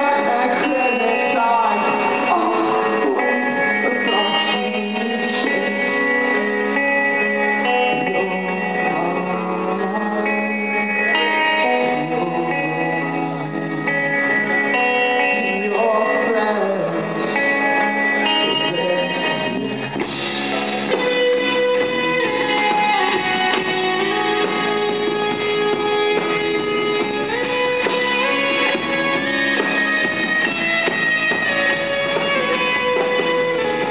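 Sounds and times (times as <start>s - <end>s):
live rock band playing: 0.0s - 33.9s
ringing guitar notes: 0.0s - 33.9s.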